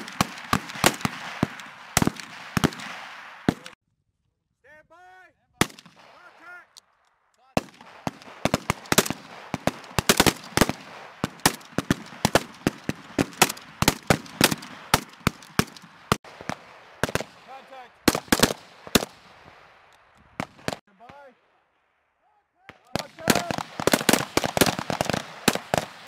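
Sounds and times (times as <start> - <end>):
assault rifles firing: 0.0 - 3.8, 5.6 - 6.6, 7.5 - 21.5, 22.6 - 26.0.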